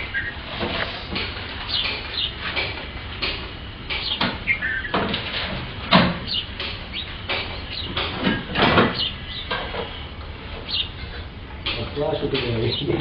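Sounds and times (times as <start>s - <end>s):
sparrows chirping: 0.0s - 5.2s, 5.8s - 13.0s.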